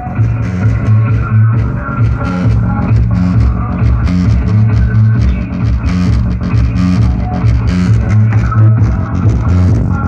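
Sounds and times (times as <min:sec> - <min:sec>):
loud rock music with heavy bass: 0:00.0 - 0:10.0.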